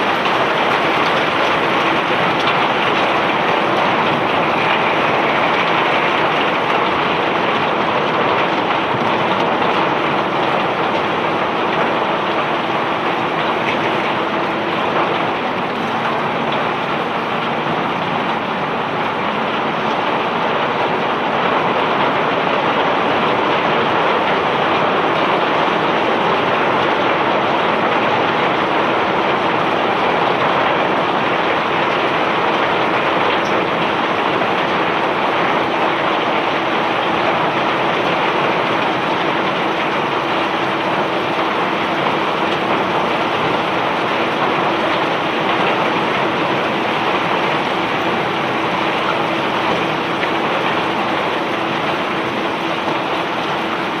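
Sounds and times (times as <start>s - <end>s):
faint machinery hum: 0.0s - 54.0s.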